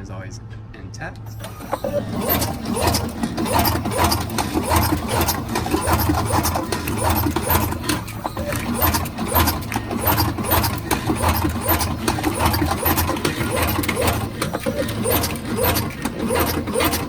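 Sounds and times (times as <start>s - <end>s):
motor hum: 1.2s - 17.0s
rhythmic mechanical clatter: 1.2s - 17.0s.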